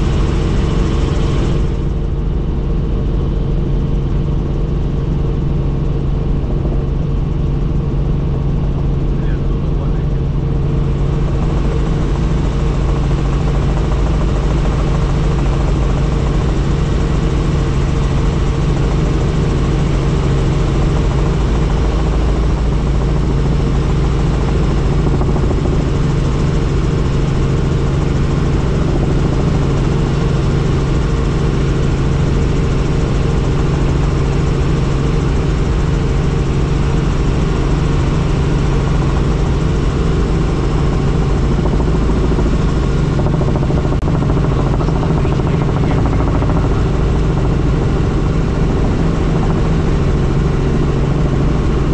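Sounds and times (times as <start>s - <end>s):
helicopter engine and rotor drone: 0.0s - 51.9s.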